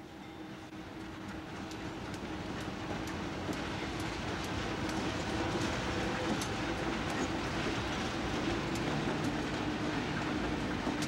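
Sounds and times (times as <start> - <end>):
diesel locomotive engines: 0.0 - 11.0.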